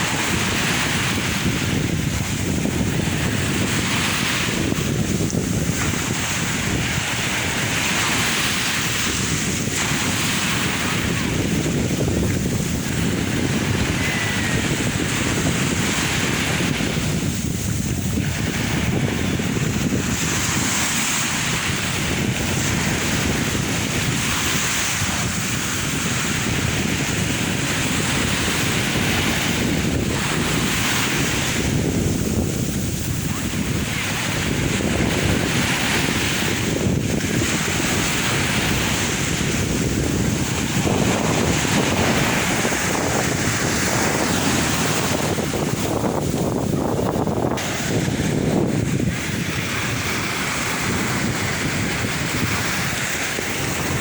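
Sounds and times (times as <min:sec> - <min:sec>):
sea waves washing onto shore: 0:00.0 - 0:54.0
wind buffeting microphone: 0:00.0 - 0:54.0.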